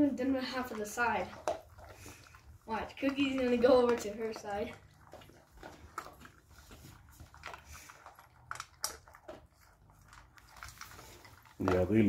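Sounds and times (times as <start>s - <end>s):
dog chewing food: 0.0s - 12.0s
teeth clicking against metal bowl: 0.3s - 6.4s, 7.4s - 11.9s.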